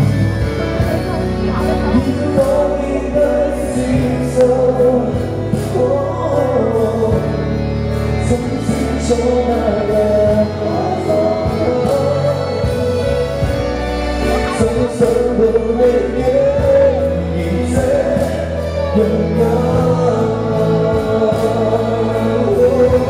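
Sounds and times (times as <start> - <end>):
man singing into microphone: 0.0 - 23.0
pop music accompaniment: 0.0 - 23.0.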